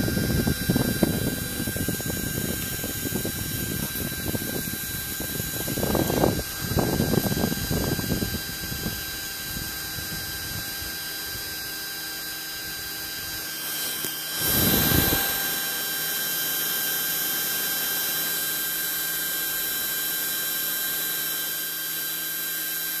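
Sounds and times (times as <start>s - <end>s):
spindle motor whining: 0.0s - 23.0s.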